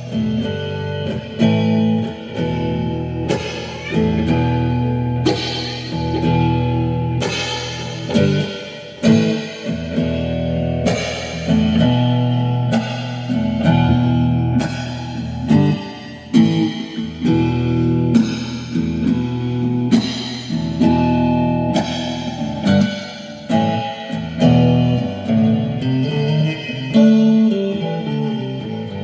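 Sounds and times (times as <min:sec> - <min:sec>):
guitar chords ringing: 0:00.0 - 0:29.0.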